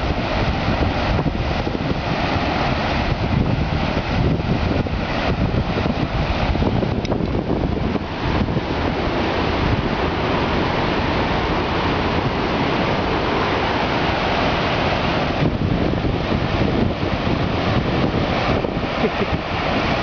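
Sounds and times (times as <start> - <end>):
waterfall roaring: 0.0 - 20.0
wind buffeting microphone: 0.0 - 20.0.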